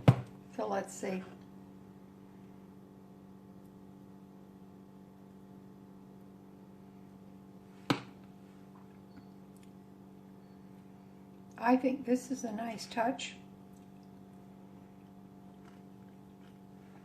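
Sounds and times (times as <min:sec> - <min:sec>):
low hum: 0:00.4 - 0:17.0.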